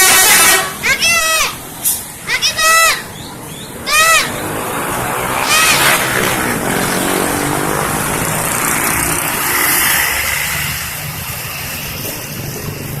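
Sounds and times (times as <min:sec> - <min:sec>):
bus engine driving past: 0:00.0 - 0:13.0
road noise: 0:00.0 - 0:13.0.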